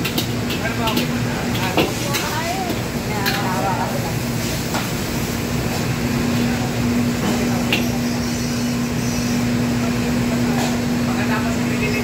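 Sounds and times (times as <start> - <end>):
wok burners roaring: 0.0 - 12.0.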